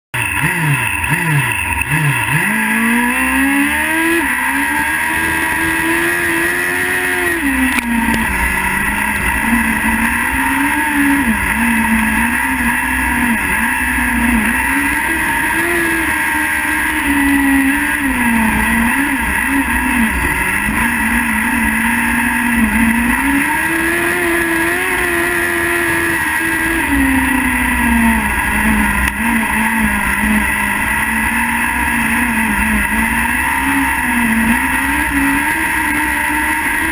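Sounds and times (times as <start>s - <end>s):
racing engine revving: 0.2s - 36.9s.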